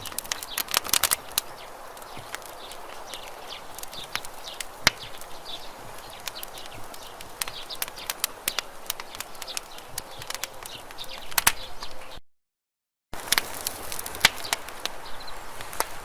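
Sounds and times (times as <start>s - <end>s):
wood campfire crackling: 0.0s - 12.2s, 13.2s - 16.0s.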